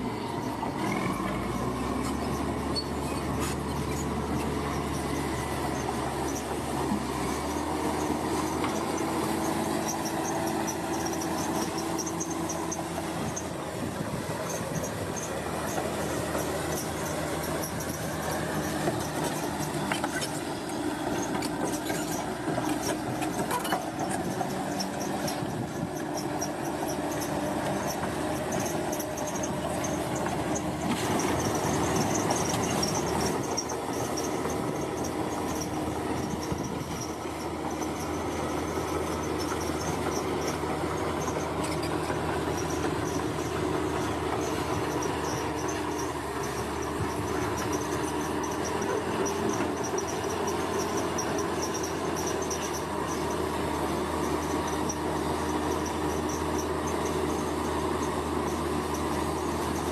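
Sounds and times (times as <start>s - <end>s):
heavy machinery engine hum: 0.0s - 59.9s.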